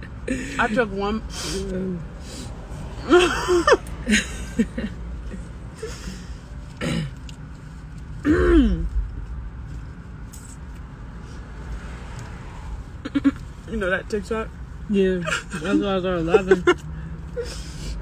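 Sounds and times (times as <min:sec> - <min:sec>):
low car cabin rumble: 0:00.0 - 0:18.0.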